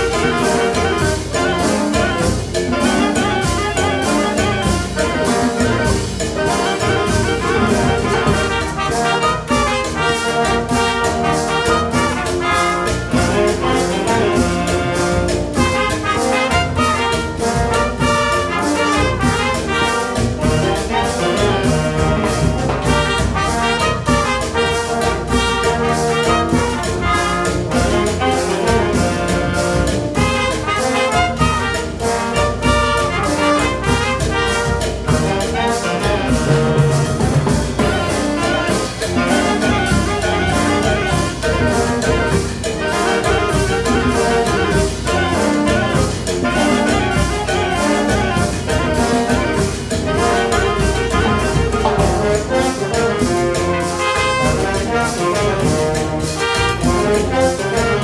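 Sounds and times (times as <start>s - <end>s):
wind band playing cumbia: 0.0s - 58.0s.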